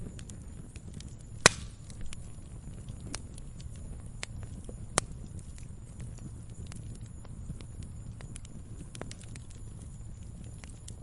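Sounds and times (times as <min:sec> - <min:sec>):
log fire crackling: 0:00.0 - 0:11.0
low rumble of burning: 0:00.0 - 0:11.0.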